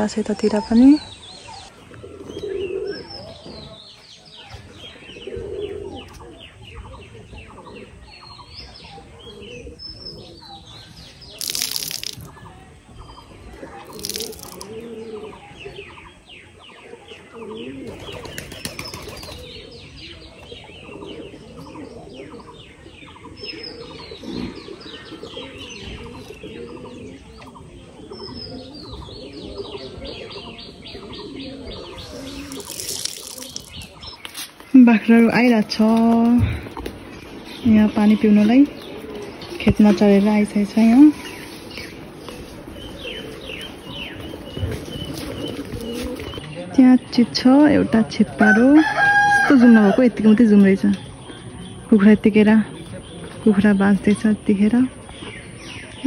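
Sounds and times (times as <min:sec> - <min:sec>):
birds chirping: 0:00.0 - 0:56.0
low steady bird call: 0:00.0 - 0:56.0.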